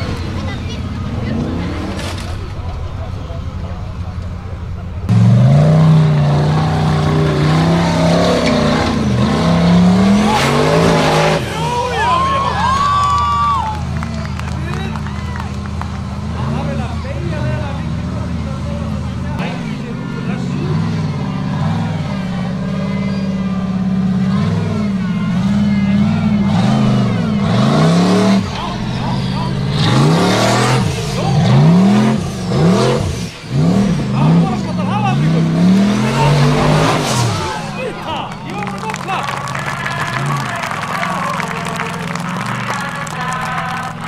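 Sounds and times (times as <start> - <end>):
buggy engine revving hard: 0.0 - 4.2, 5.0 - 44.0.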